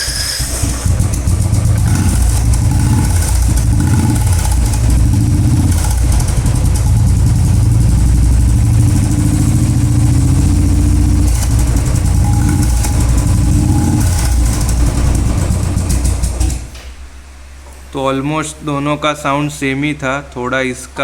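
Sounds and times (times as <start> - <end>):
motorcycle engine idling: 0.4 - 17.3.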